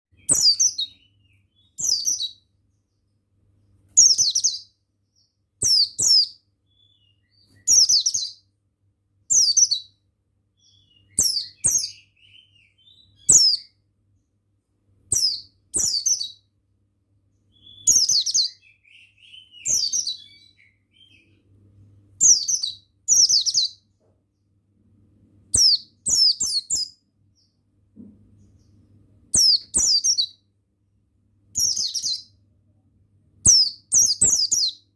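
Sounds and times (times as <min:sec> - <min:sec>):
bird chirping: 0:00.1 - 0:08.6, 0:09.2 - 0:30.6, 0:31.4 - 0:34.9.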